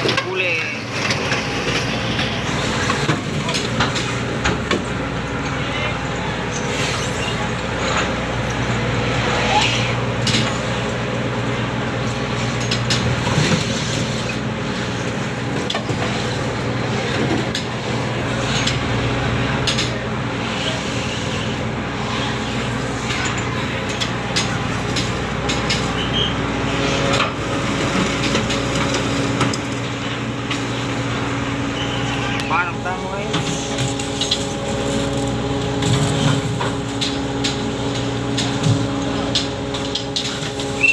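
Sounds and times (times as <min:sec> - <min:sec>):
ship machinery drone: 0:00.0 - 0:40.9.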